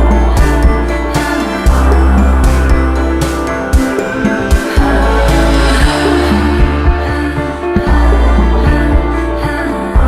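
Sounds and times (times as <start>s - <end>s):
background music with steady beat: 0.0s - 10.0s
sustained bass line: 0.0s - 10.0s.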